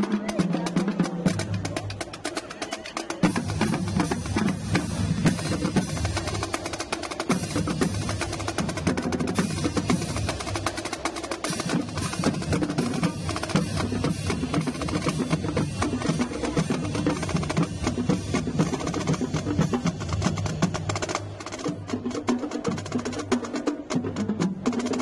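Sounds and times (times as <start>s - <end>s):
snare drums: 0.0s - 25.0s
tenor drums: 0.0s - 25.0s.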